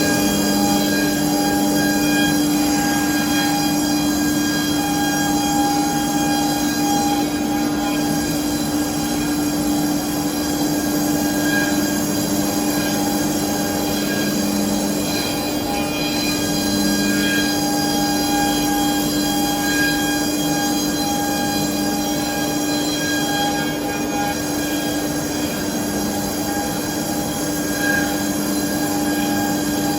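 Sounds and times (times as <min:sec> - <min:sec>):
cnc router whining: 0:00.0 - 0:29.9.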